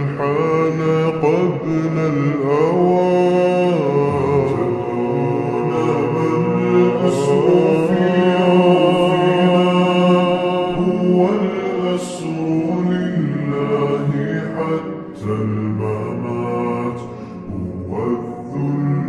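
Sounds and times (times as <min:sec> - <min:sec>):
reverb-heavy layered chanting vocals: 0:00.0 - 0:19.0.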